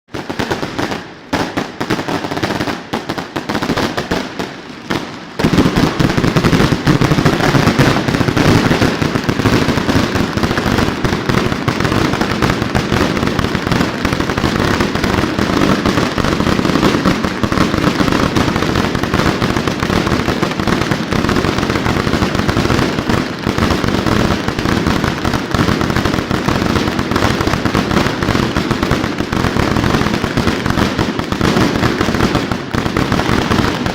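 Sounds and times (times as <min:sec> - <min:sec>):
fireworks crackling and banging: 0:00.1 - 0:33.9.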